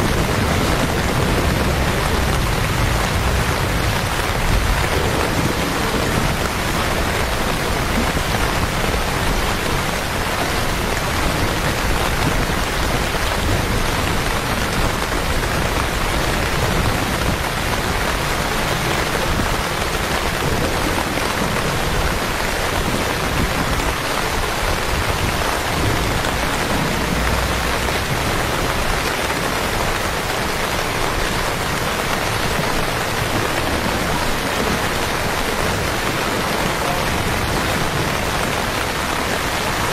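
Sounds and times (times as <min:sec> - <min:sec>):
heavy rain on wet streets: 0:00.0 - 0:39.9.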